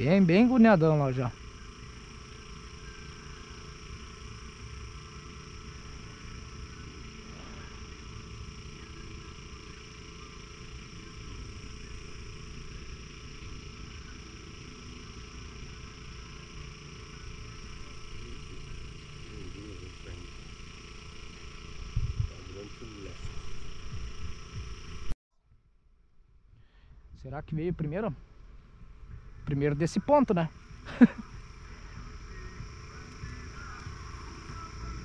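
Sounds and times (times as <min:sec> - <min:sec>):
constant low rumble: 0:00.0 - 0:35.0
faint high hum: 0:00.0 - 0:35.0.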